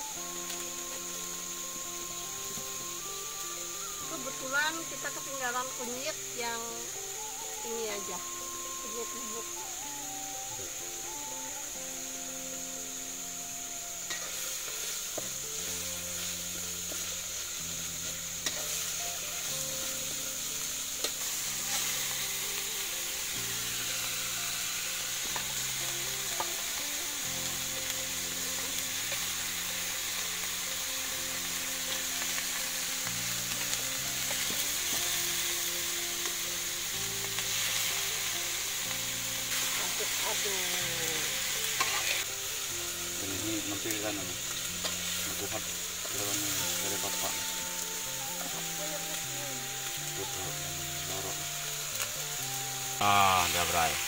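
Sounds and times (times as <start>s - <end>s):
oil sizzling in a wok: 0.0s - 54.0s.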